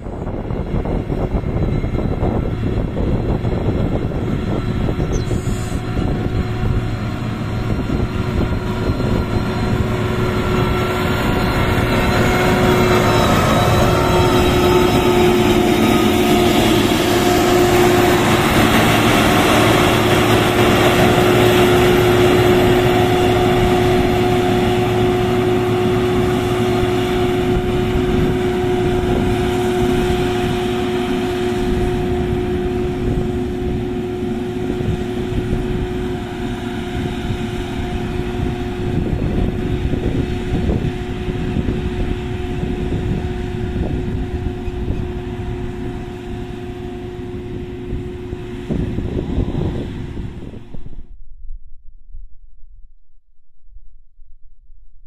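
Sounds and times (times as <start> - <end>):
diesel engine running: 0.0 - 51.0
steady whine: 0.0 - 55.0.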